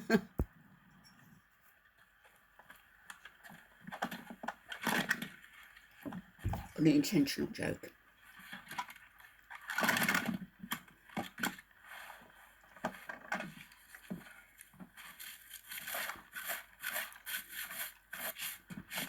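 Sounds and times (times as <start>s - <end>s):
rustling and crinkling: 0.4s - 7.1s, 8.1s - 19.0s.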